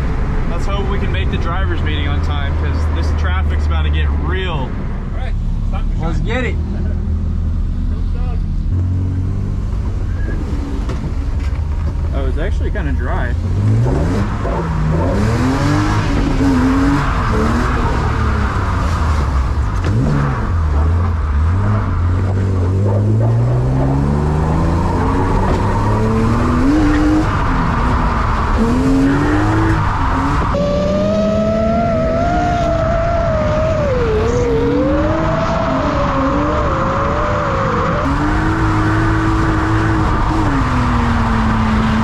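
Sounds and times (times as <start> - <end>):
engines revving up and down: 0.0 - 11.4, 12.2 - 42.0
car engines accelerating hard: 0.0 - 42.0.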